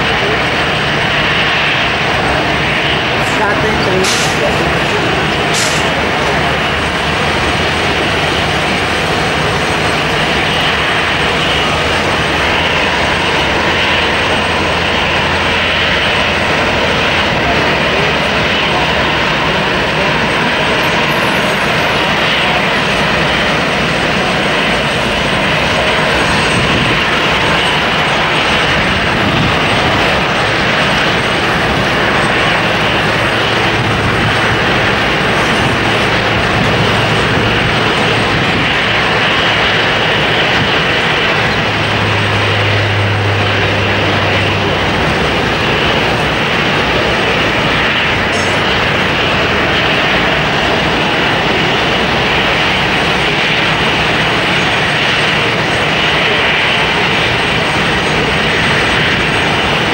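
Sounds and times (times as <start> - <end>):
radial piston engines idling: 0.0 - 59.9.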